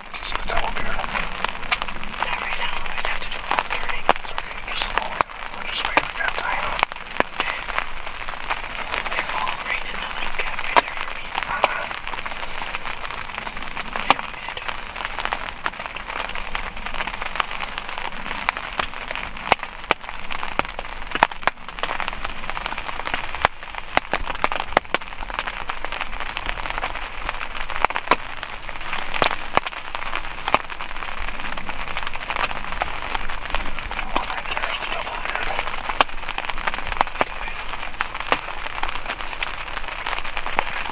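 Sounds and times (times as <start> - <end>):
raindrops tapping on a surface: 0.0 - 40.9
steady rain: 0.0 - 40.9.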